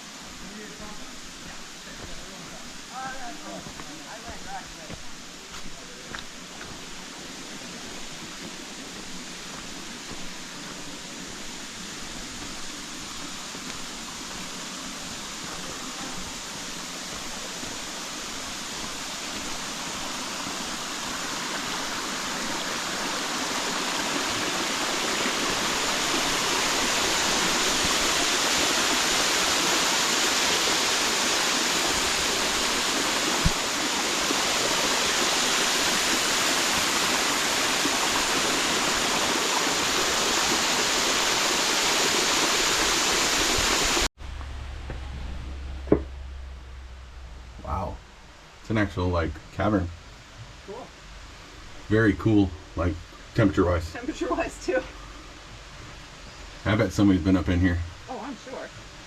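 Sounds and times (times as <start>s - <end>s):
rush of flowing water: 0.0s - 44.9s, 45.8s - 59.0s.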